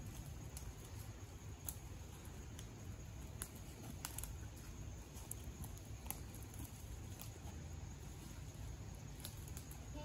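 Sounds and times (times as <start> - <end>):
twigs breaking: 0.0 - 7.6, 8.9 - 9.9.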